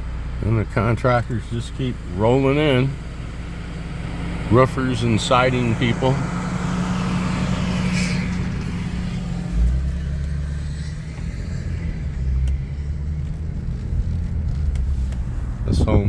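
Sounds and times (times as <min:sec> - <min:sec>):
low engine hum: 0:00.0 - 0:16.0
road rumble: 0:00.0 - 0:16.0.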